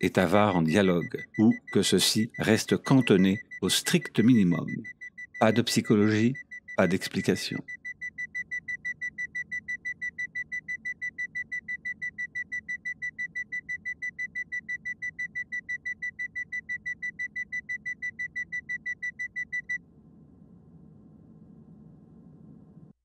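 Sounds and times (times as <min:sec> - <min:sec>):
fast high alarm beeps: 0:00.2 - 0:19.8.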